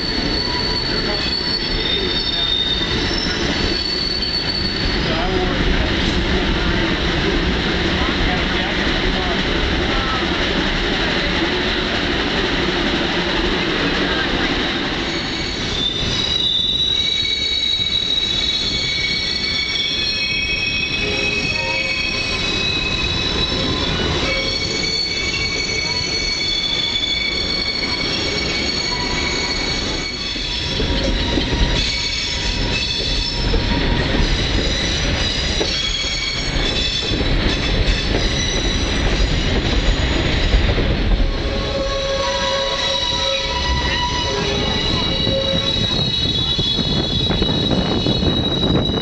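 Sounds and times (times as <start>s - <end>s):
train wheels squealing on a curve: 0.0s - 6.2s, 14.0s - 49.0s
rumble and clatter of train cars: 0.0s - 49.0s.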